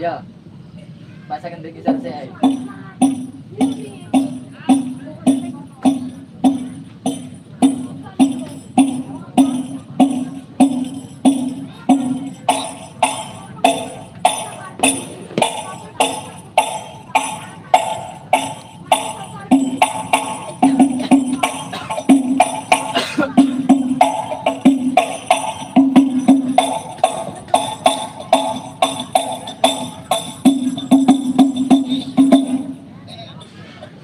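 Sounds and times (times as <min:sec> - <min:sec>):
frame drum beat: 0:01.9 - 0:32.9.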